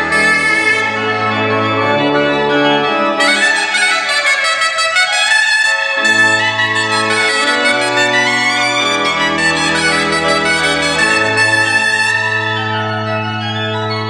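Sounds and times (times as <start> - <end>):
bombarde reed melody: 0.0 - 14.0
sustained organ chords: 0.0 - 14.0.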